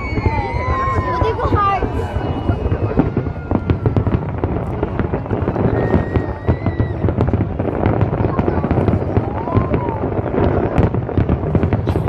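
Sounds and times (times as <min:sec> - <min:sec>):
firework whistling: 0:00.0 - 0:12.0
fireworks bangs and crackles: 0:00.0 - 0:12.0.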